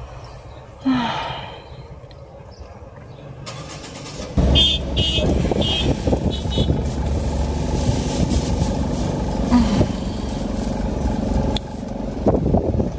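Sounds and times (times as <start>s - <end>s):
car engine and tyre rumble: 0.0s - 12.9s.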